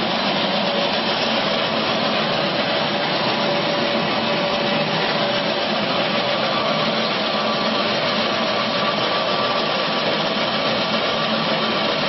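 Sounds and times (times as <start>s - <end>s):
faint steady whine: 0.0s - 12.0s
pellet mill running: 0.0s - 12.0s.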